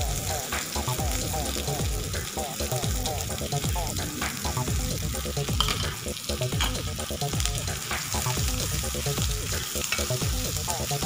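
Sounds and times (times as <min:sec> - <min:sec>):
background music with a beat: 0:00.0 - 0:11.0
onions sizzling in oil: 0:00.0 - 0:11.0.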